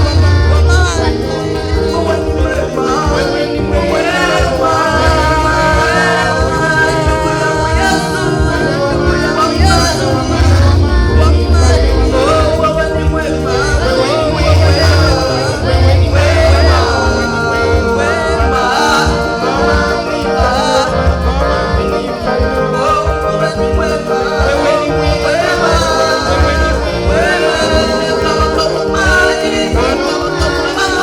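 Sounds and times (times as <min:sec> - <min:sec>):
band accompaniment: 0:00.0 - 0:31.0
people singing worship song: 0:00.0 - 0:31.0
steady bass: 0:00.0 - 0:31.0.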